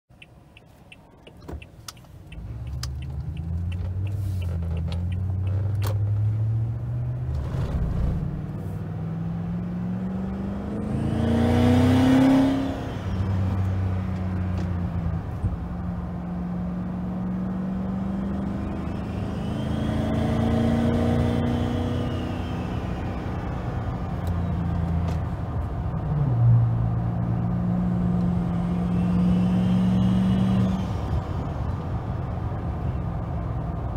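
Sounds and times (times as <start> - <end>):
truck engine accelerating: 1.9 - 33.9.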